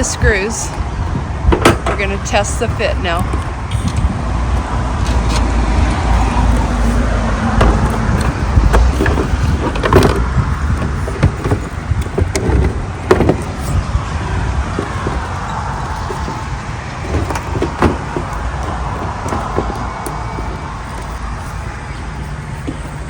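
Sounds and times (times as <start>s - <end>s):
steady low rumble: 0.0s - 23.0s
plastic and metal parts knocking: 1.1s - 5.5s, 6.3s - 13.9s, 14.6s - 21.4s.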